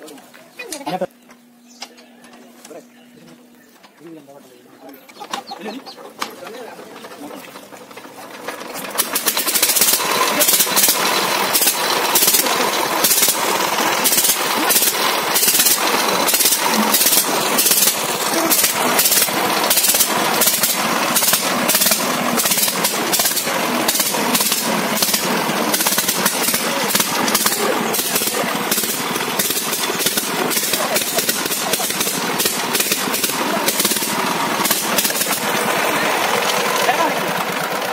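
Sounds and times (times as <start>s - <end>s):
diesel engine knocking beat: 5.1s - 37.9s.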